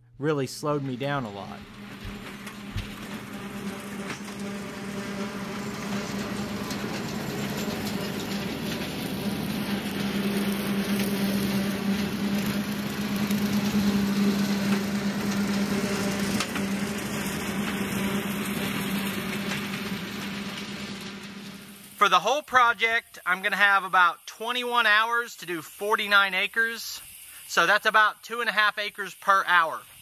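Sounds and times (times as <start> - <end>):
tractor engine and mower hum: 0.0 - 29.6.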